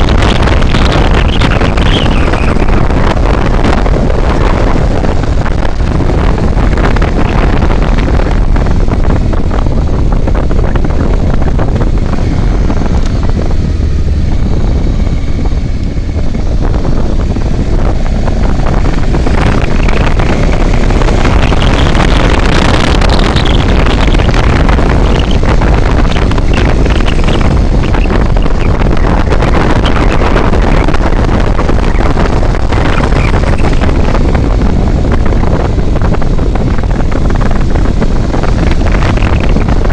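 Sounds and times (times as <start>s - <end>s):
vehicle road and engine noise: 0.0s - 39.9s
wind buffeting microphone: 0.0s - 39.9s.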